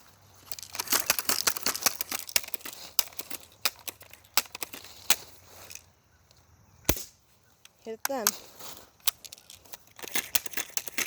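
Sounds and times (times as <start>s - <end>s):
bb gun clicks and rattles: 0.0s - 5.8s, 7.6s - 11.0s.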